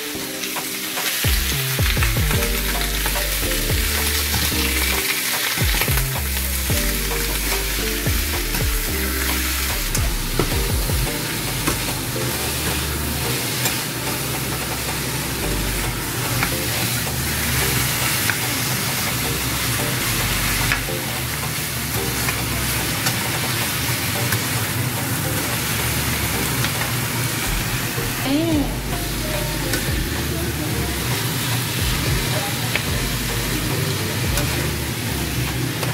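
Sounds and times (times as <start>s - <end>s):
meat and onion sizzling in pan: 0.0s - 35.9s.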